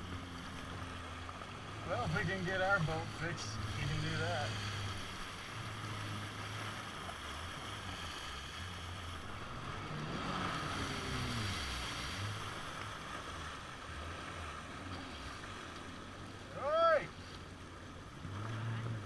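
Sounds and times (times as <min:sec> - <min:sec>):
jet ski engine running: 0:00.0 - 0:19.0
water rushing and splashing: 0:00.0 - 0:19.0.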